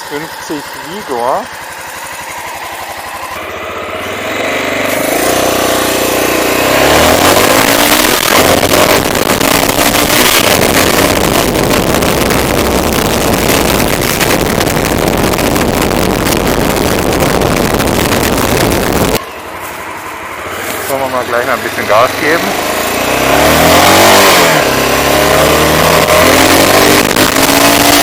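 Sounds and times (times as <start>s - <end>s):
single-cylinder motorcycle engine: 0.0s - 28.0s.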